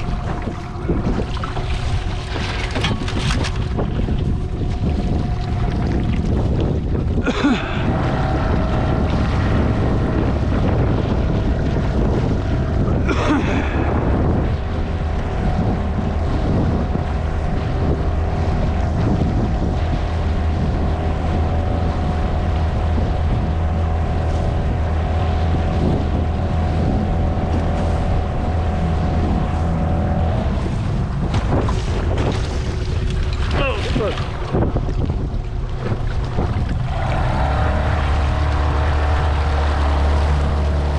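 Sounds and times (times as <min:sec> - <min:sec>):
outboard motor running: 0:00.0 - 0:40.9
wind on microphone: 0:00.0 - 0:40.9.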